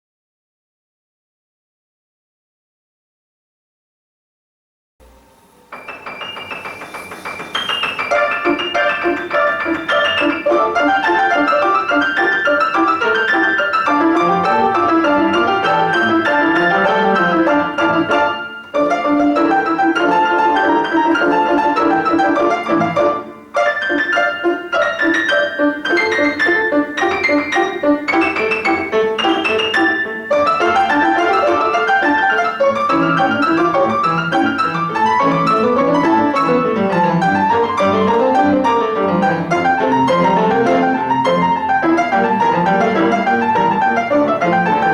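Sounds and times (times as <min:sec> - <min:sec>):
piano playing: 0:05.0 - 0:44.9.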